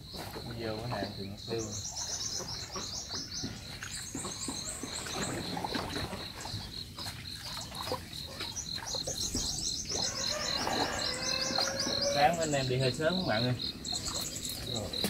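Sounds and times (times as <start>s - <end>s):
water splashing: 1.9s - 12.2s, 13.0s - 15.0s.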